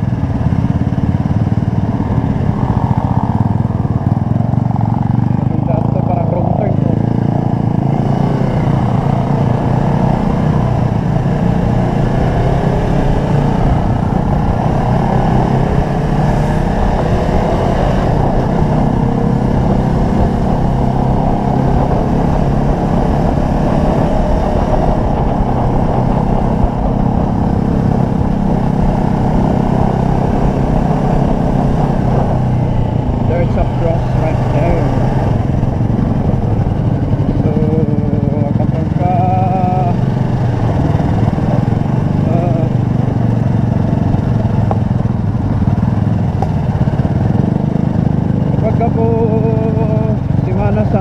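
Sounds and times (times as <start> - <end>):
motorcycle engine running: 0.0 - 51.0
wind on microphone: 6.8 - 48.6.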